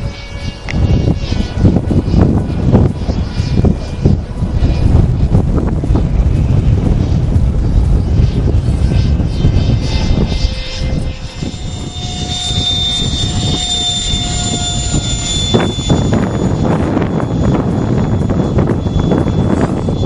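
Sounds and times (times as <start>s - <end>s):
model airplane motor whine: 0.0s - 20.0s
wind on microphone: 0.0s - 20.0s.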